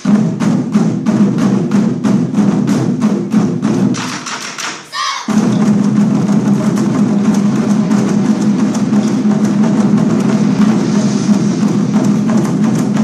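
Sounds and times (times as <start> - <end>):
war drums played by ensemble: 0.0 - 13.0.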